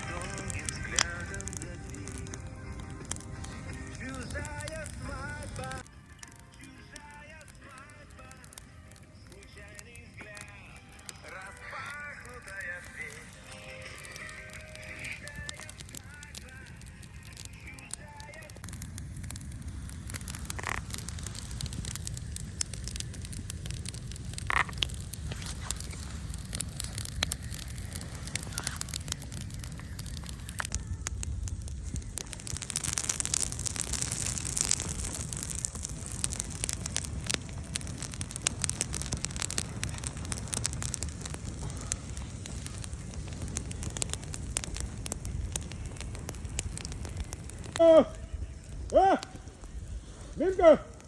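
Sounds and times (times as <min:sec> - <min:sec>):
low rumble: 0:00.0 - 0:05.9, 0:10.0 - 0:50.4
campfire crackling and popping: 0:00.0 - 0:51.0.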